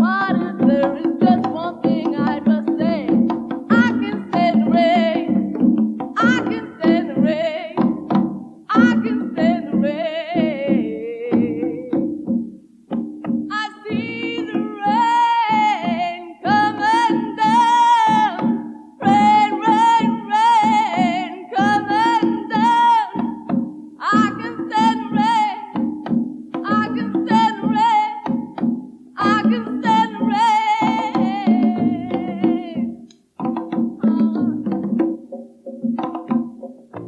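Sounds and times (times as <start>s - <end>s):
woman singing with vibrato: 0.0s - 12.5s, 13.4s - 35.2s.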